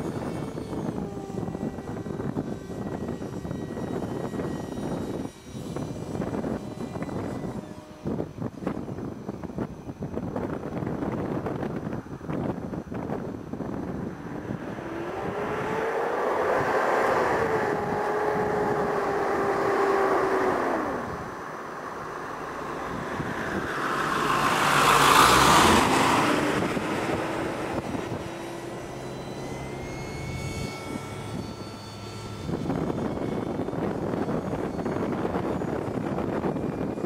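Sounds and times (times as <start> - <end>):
model jet motor whine: 0.0 - 37.0.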